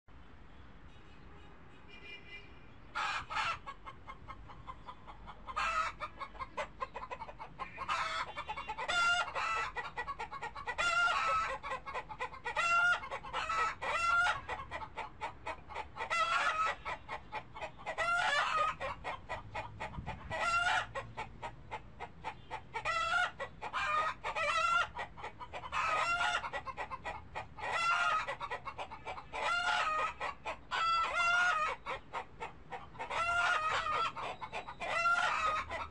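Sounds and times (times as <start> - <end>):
chickens clucking: 2.8 - 35.9.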